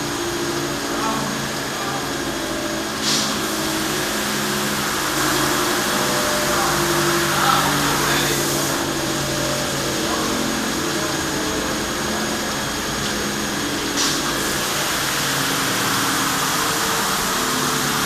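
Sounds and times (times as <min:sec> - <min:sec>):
carpet washing machine whirring: 0:00.0 - 0:18.0
water spraying: 0:00.0 - 0:18.0.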